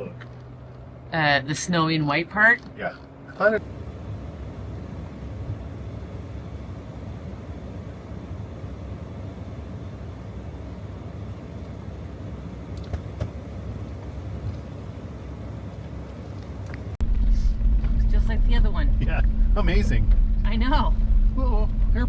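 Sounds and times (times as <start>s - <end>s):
car engine rumble from inside: 3.4s - 22.0s.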